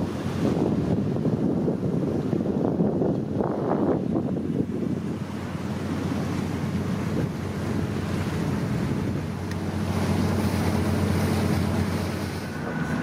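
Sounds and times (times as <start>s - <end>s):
sea water washing: 0.0s - 13.0s
wind rumbling on microphone: 0.0s - 13.0s.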